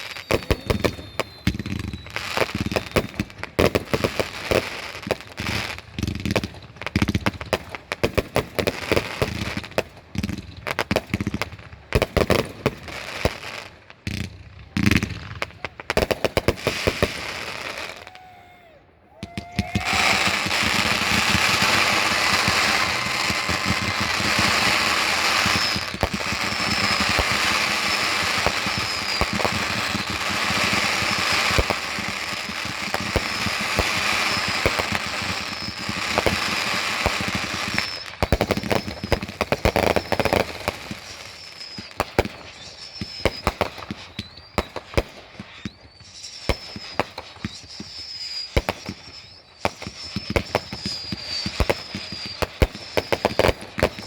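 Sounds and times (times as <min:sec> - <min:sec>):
fireworks crackling and popping: 0:00.0 - 0:18.4, 0:19.2 - 0:54.0.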